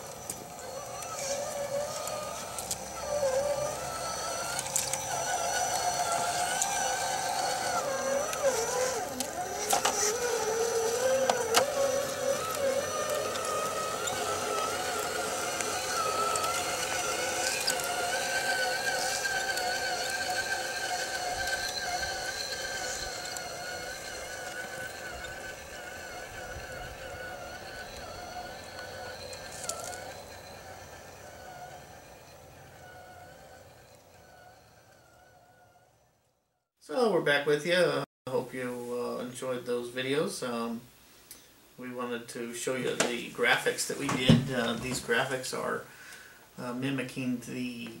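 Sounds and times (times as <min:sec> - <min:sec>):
electric motor and gear whine: 0:00.0 - 0:36.4, 0:42.7 - 0:45.8.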